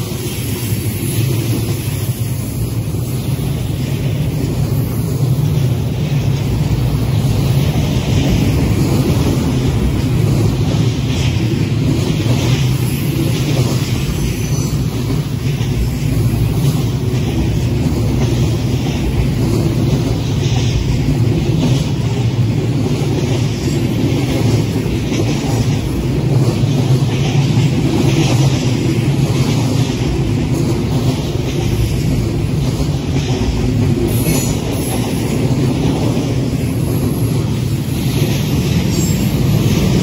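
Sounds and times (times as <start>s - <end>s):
steel wheels rumbling on rails: 0.0s - 40.0s.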